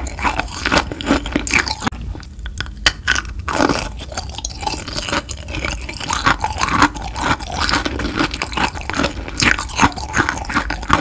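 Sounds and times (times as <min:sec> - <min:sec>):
crunchy candy chewing: 0:00.0 - 0:11.0.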